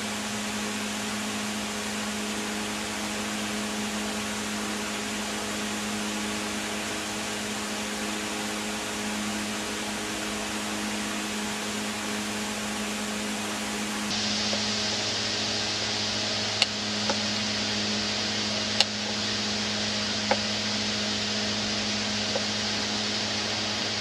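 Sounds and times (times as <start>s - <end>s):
constant hiss: 0.0s - 24.0s
low machine hum: 0.0s - 24.0s.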